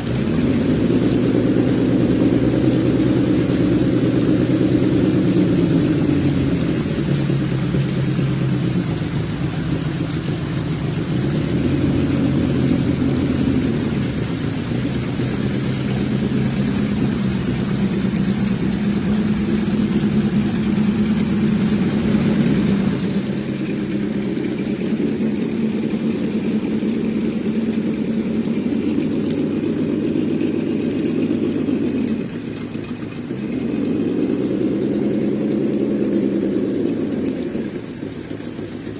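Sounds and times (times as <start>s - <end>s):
simulated engine sound from speaker: 0.0s - 38.9s
steady high whine: 0.0s - 38.9s.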